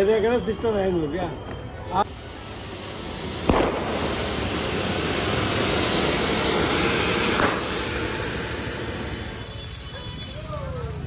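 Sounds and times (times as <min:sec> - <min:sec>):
ground firework hissing: 0:01.9 - 0:11.0
sharp firework crack: 0:02.0 - 0:11.0.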